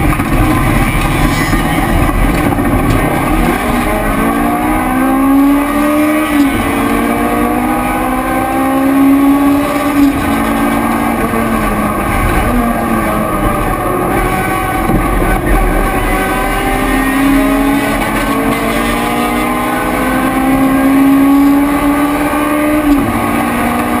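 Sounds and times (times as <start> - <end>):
race car engine at full throttle: 0.0 - 24.0
wind and road noise: 0.0 - 24.0.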